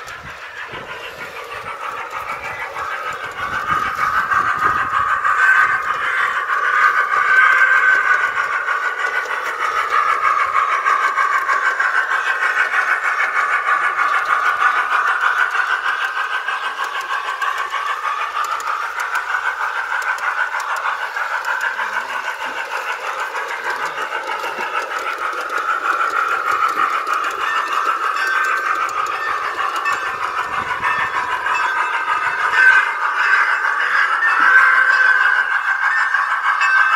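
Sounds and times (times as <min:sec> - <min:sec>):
tinny locomotive sounds from speaker: 0:00.0 - 0:36.9.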